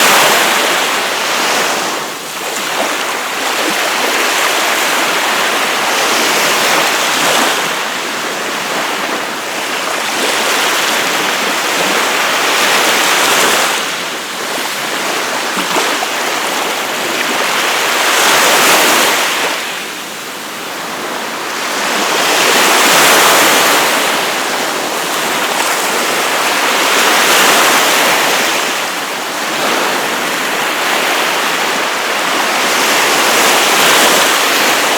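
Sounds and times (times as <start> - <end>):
surf washing up a beach: 0.0 - 34.9.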